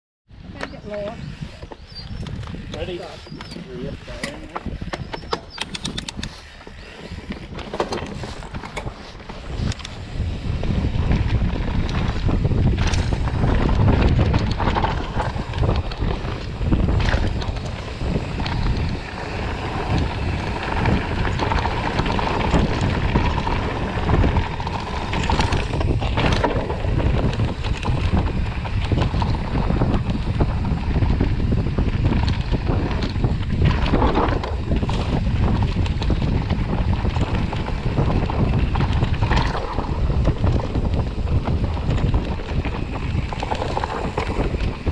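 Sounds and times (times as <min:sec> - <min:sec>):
bike tyres rolling on dirt: 0:00.3 - 0:44.9
wind buffeting microphone: 0:00.3 - 0:44.9
bike knocks and rattles: 0:00.6 - 0:44.9.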